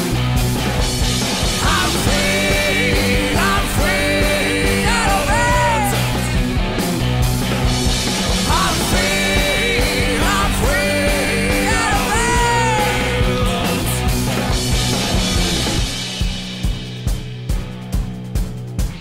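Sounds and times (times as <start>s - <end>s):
sliding lead guitar line: 0.0s - 16.0s
rock band playing: 0.0s - 19.0s.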